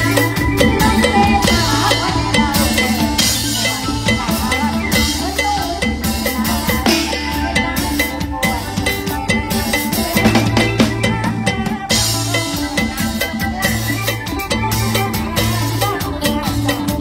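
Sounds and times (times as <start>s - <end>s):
drum kit beat: 0.0s - 17.0s
gliding melodic line: 0.0s - 17.0s
sustained bass: 0.0s - 17.0s.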